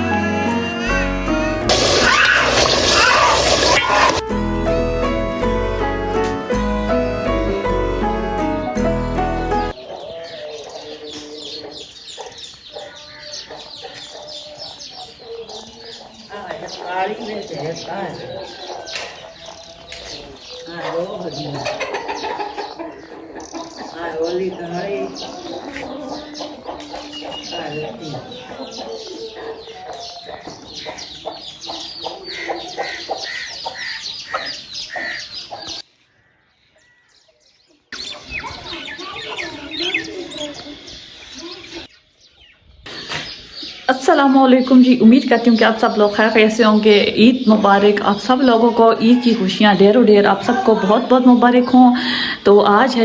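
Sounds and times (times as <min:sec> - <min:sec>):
chickens clucking: 0:00.0 - 0:04.3, 0:09.7 - 0:36.0, 0:37.2 - 0:43.9, 0:44.6 - 0:53.0
small birds chirping: 0:09.7 - 0:53.0.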